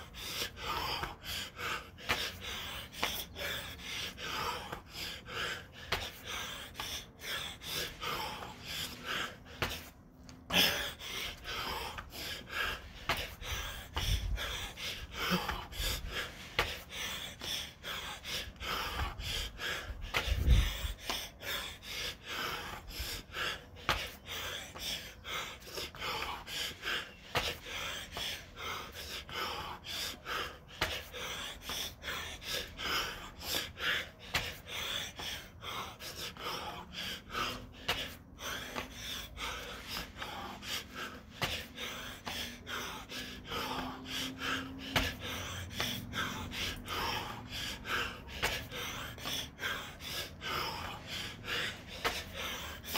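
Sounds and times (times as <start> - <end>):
man breathing hard: 0.0 - 52.9.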